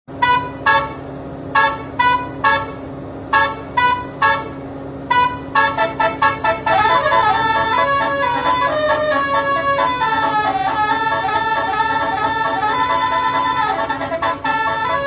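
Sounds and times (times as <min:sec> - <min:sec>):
multi-tone bus horn tune: 0:00.1 - 0:15.0
steady low hum: 0:00.1 - 0:15.0.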